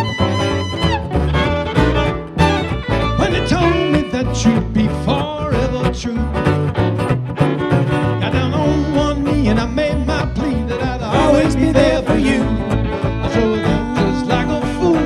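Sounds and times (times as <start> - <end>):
bluegrass string band playing: 0.0 - 15.0.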